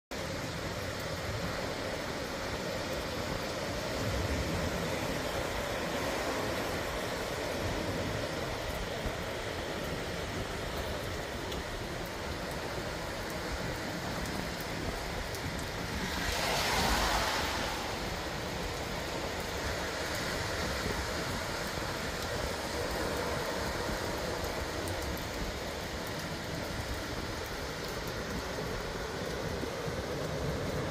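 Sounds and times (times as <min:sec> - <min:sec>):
steady rain: 0:00.1 - 0:30.9
ocean surf washing: 0:00.2 - 0:30.9.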